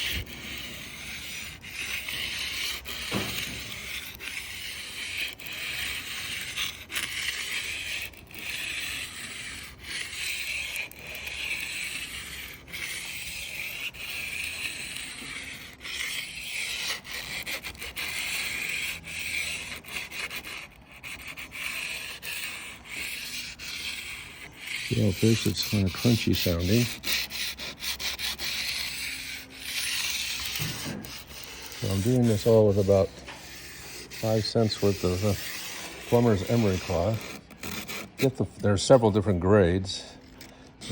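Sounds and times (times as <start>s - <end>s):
emery cloth rasping on metal edge: 0.0s - 39.4s, 40.0s - 40.9s.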